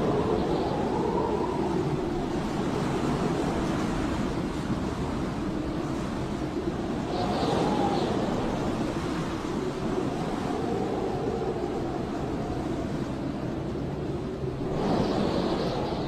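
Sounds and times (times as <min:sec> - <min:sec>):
blizzard wind howling: 0:00.0 - 0:16.0
whistling wind tone: 0:00.0 - 0:16.0.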